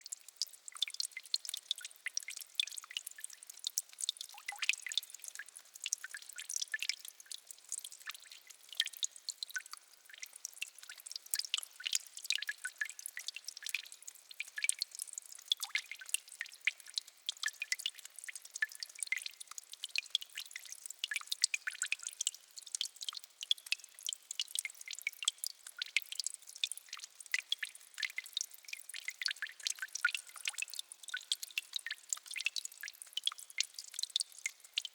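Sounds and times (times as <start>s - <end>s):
water dripping in a bog: 0.0s - 34.9s.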